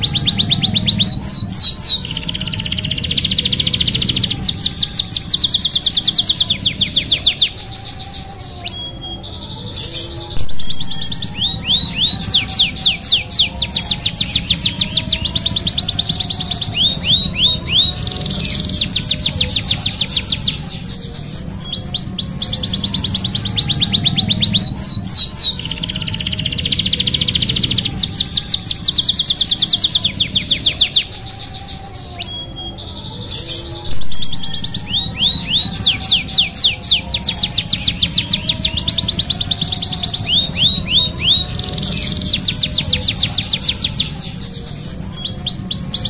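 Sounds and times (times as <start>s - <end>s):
canary singing trills: 0.0s - 46.0s.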